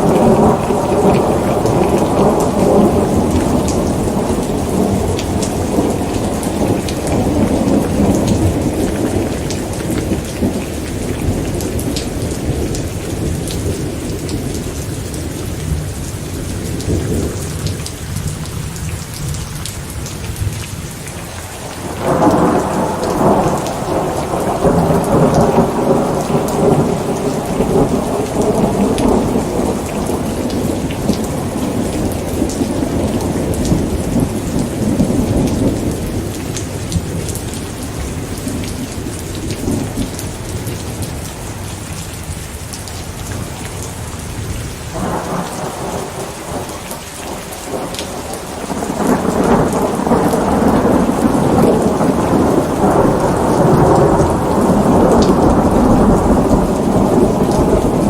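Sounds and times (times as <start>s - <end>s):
thunder rumbling: 0.0s - 18.4s, 21.6s - 41.2s, 43.4s - 58.0s
steady rain falling: 0.0s - 58.0s.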